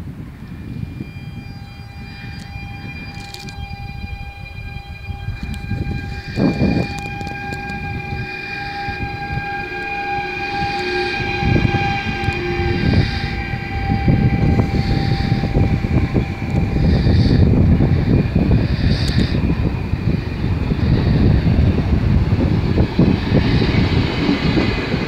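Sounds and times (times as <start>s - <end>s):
steady high whine: 0.0s - 25.0s
train wheels rumbling on rails: 0.0s - 25.0s.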